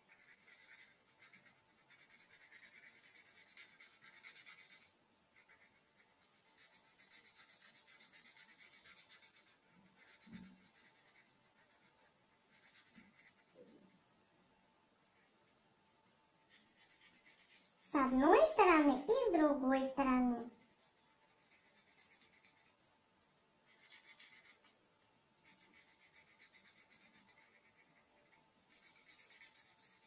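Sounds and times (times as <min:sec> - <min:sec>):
marker scratching on paper: 0:00.0 - 0:13.9, 0:16.5 - 0:22.8, 0:23.7 - 0:24.7, 0:25.4 - 0:30.0.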